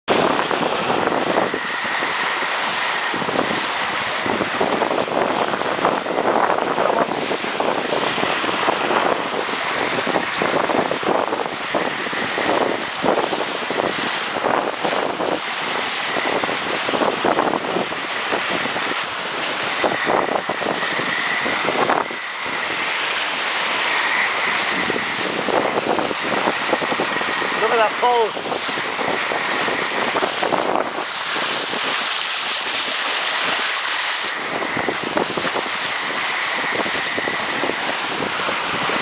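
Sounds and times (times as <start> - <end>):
water splashing along hull: 0.1 - 39.0
wind buffeting microphone: 0.1 - 39.0.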